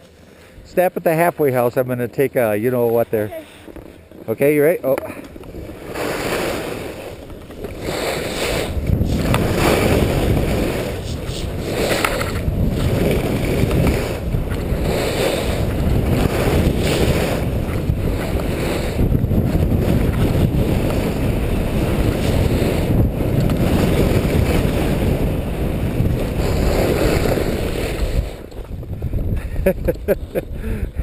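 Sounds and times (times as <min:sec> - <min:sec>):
wind rushing over microphone: 0:00.6 - 0:31.0
skis sliding over snow: 0:02.4 - 0:28.9.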